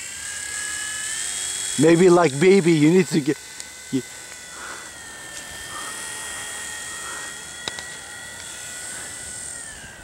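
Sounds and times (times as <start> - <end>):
toy helicopter motor whine: 0.0 - 10.0.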